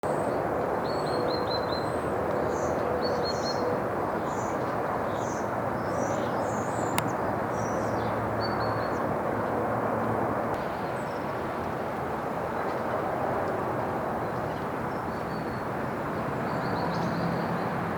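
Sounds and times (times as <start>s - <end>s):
songbirds chirping: 0.1s - 11.5s, 14.2s - 17.9s
rushing background noise: 0.1s - 17.9s.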